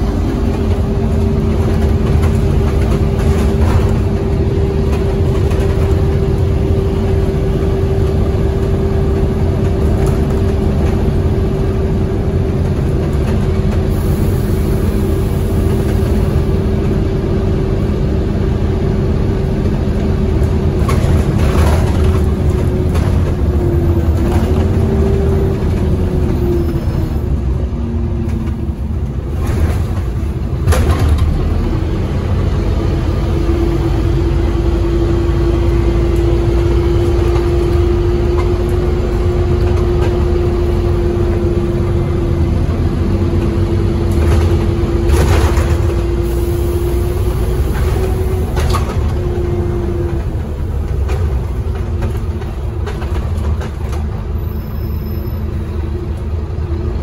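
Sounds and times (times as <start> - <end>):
bus engine whine: 0.0 - 57.0
road noise: 0.0 - 57.0.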